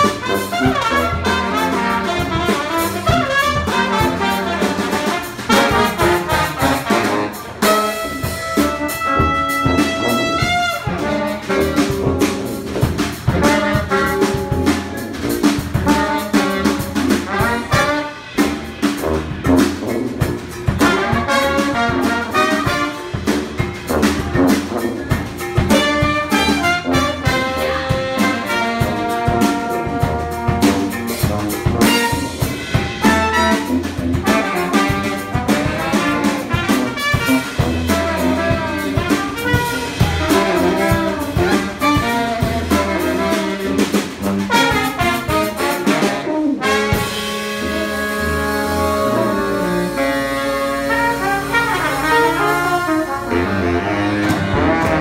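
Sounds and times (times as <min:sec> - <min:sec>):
brass band playing jazz: 0:00.0 - 0:55.0.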